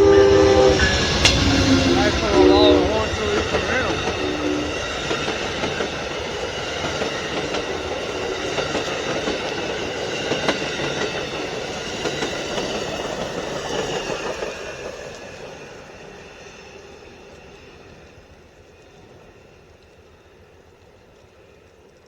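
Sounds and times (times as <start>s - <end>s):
train wheels clattering on track: 0.0s - 22.0s.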